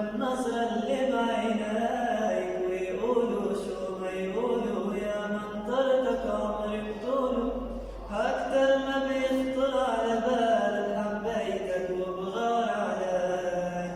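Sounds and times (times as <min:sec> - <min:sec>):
young man singing: 0:00.0 - 0:13.9.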